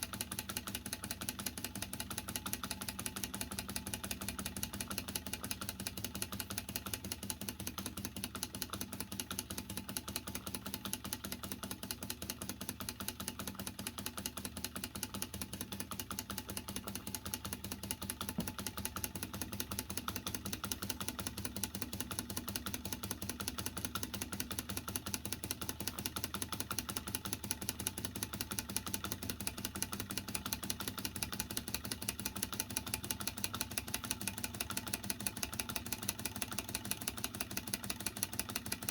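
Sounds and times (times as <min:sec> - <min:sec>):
toy steam engine ticking: 0:00.0 - 0:38.9.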